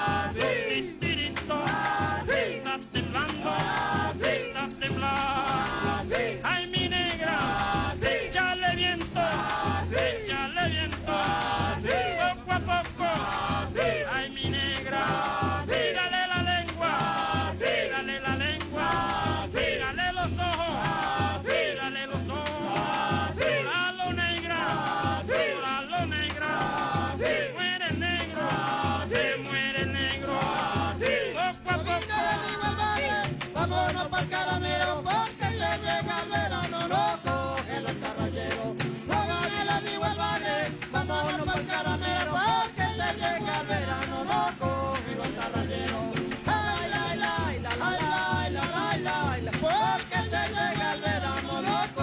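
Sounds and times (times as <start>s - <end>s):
hand drum beat: 0.0s - 52.0s
man singing: 0.0s - 52.0s
shaken rattle: 0.0s - 52.0s
strummed guitars: 0.0s - 52.0s.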